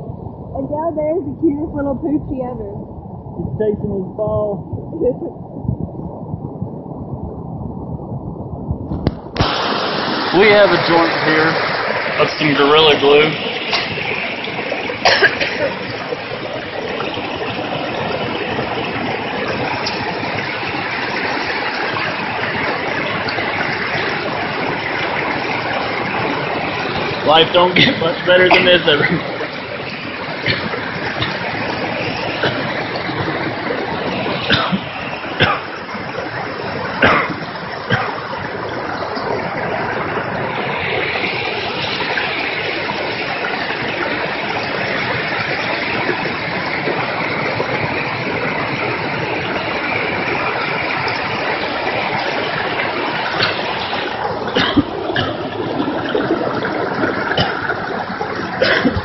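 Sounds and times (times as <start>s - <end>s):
creek rushing over rocks: 9.0s - 59.0s.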